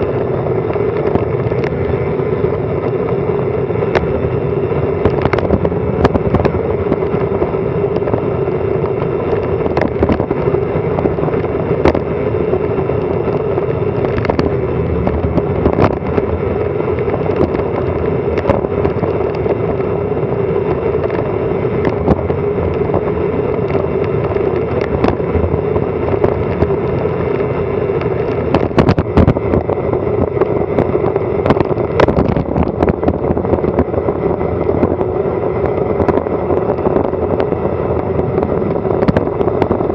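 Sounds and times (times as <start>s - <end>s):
low hum: 0.0s - 39.9s
wind roaring over microphone: 0.0s - 39.9s.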